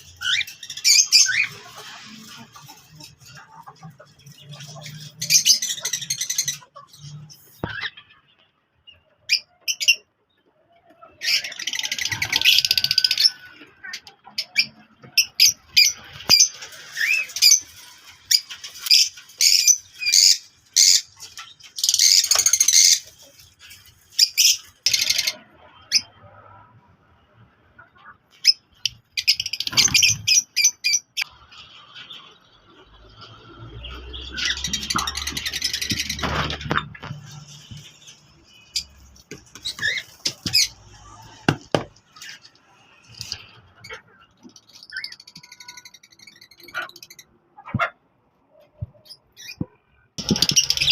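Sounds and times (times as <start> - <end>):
parrots squawking: 0.0 - 8.2, 11.0 - 26.2, 28.0 - 32.3, 33.0 - 48.0, 49.0 - 50.9.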